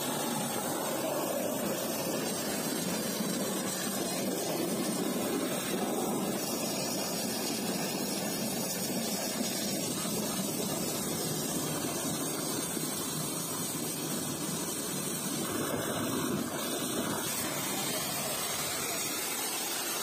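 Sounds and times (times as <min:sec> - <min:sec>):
hose water running into bucket: 0:00.0 - 0:20.0.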